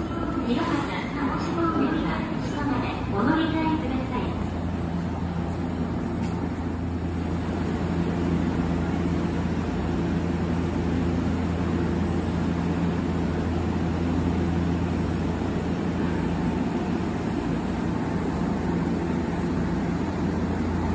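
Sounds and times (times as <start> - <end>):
train standing humming: 0.0 - 20.9.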